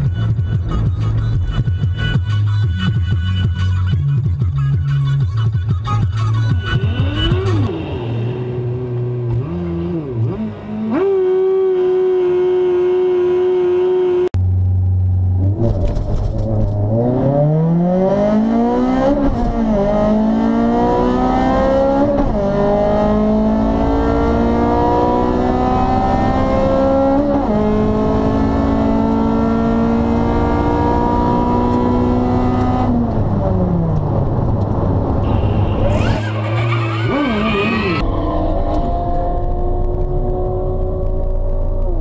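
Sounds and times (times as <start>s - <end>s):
car engine at full throttle: 6.6s - 42.0s.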